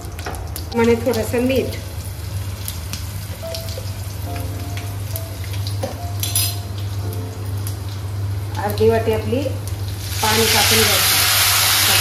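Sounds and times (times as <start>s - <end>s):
chillies sizzling in hot oil: 0.0s - 12.0s
oil popping and crackling: 0.0s - 12.0s.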